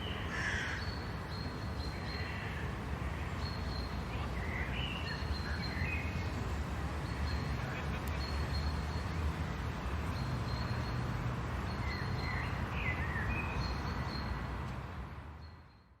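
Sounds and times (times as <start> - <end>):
distant traffic rumble: 0.0 - 15.7.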